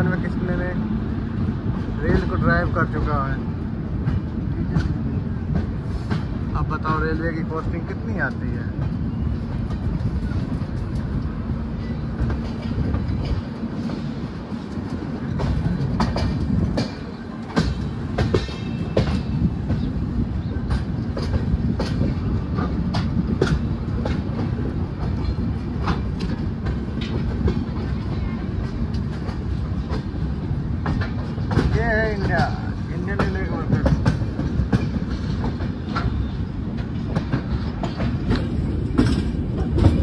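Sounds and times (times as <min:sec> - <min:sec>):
train rumbling along track: 0:00.0 - 0:40.0
wheels clacking over rail joints: 0:00.0 - 0:40.0.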